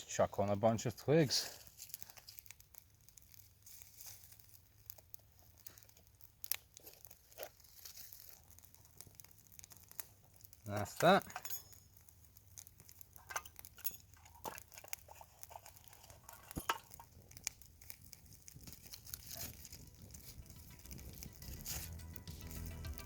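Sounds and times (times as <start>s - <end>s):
campfire crackling: 0.0s - 23.0s
sharp pops and snaps: 1.5s - 23.0s.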